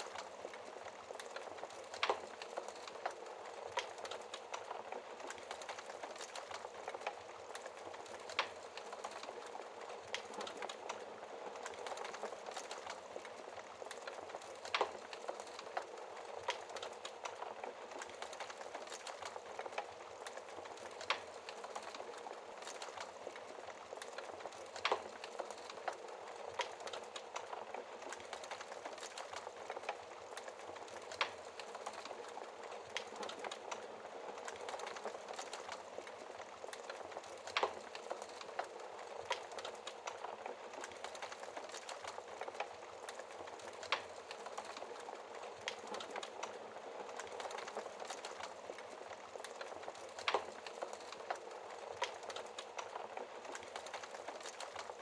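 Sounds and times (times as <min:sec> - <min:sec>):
wood fire hissing and crackling: 0:00.0 - 0:55.0.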